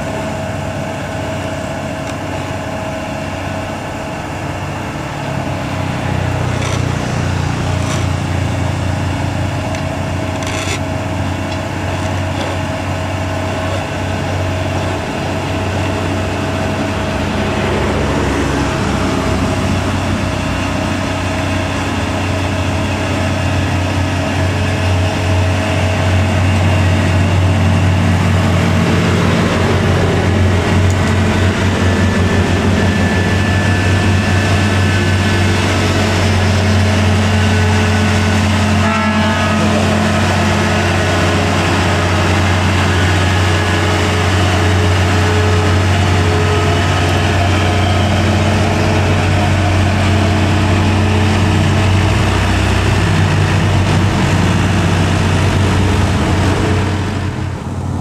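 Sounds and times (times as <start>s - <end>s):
diesel truck engine under load: 0.0s - 58.0s.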